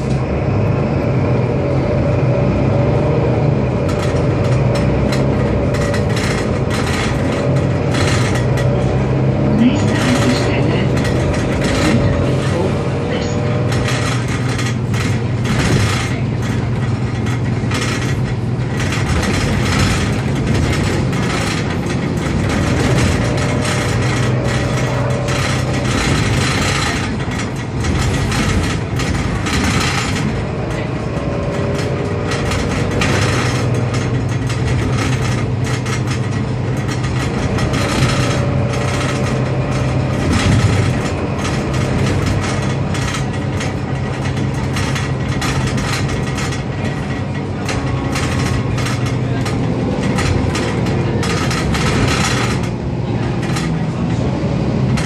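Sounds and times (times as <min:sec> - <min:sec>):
bus engine drone: 0:00.0 - 0:55.0
bus interior rattling: 0:00.0 - 0:55.0.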